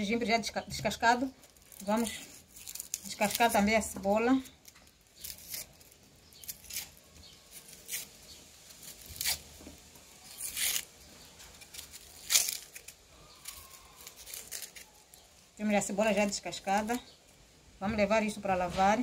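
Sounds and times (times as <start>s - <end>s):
onion skin tearing and crackling: 0.7s - 17.5s.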